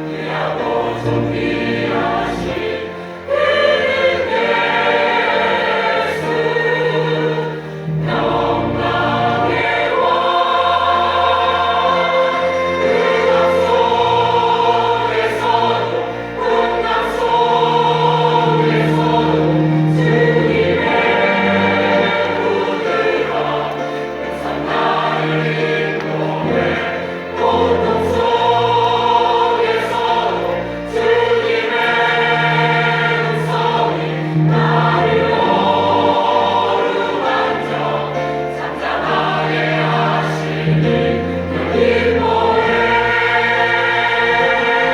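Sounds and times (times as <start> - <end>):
choir singing: 0.0 - 44.9.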